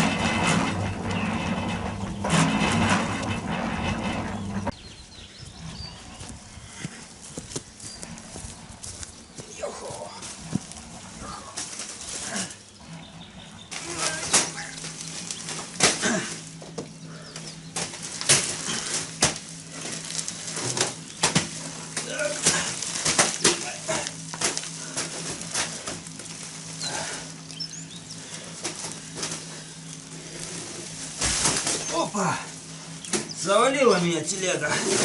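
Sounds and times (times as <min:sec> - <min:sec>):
knocks and scrapes of work: 0:00.0 - 0:04.8, 0:05.4 - 0:35.0
concrete mixer humming: 0:00.0 - 0:35.0.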